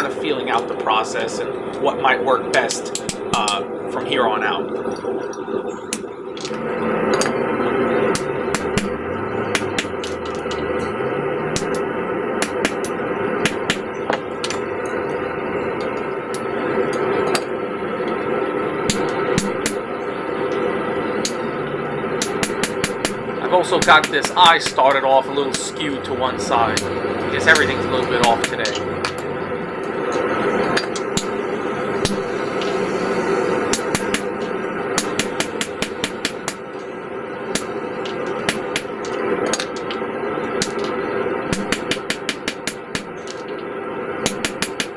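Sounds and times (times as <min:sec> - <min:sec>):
steady background hum: 0:00.0 - 0:44.9
steady background noise: 0:00.0 - 0:44.9
hammer striking hot steel: 0:02.5 - 0:03.8, 0:05.8 - 0:17.6, 0:18.8 - 0:21.5, 0:22.2 - 0:36.9, 0:37.5 - 0:43.6, 0:44.2 - 0:44.9.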